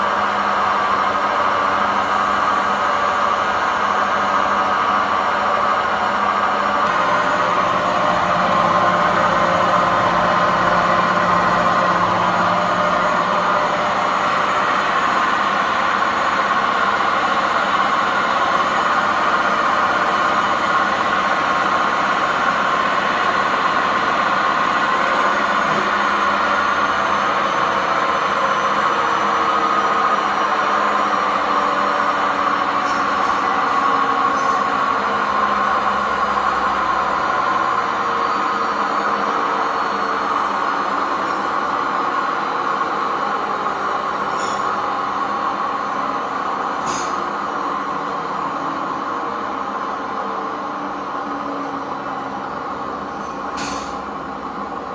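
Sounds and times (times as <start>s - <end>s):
washing machine spin cycle whine: 0.0s - 54.9s.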